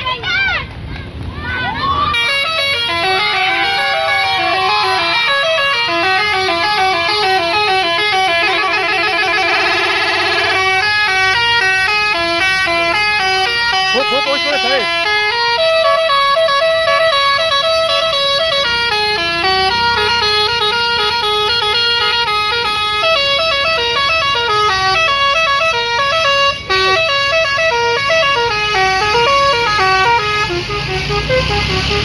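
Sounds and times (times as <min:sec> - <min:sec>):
musical bus horn melody: 0:02.1 - 0:32.0.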